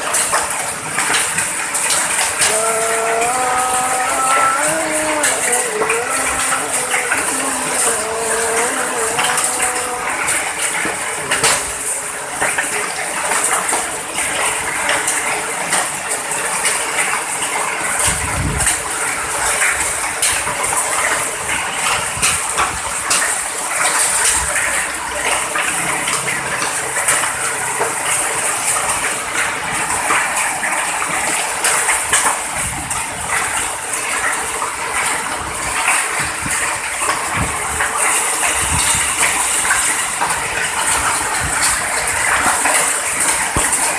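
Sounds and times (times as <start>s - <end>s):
heavy rain and hail pelting: 0.0s - 43.9s.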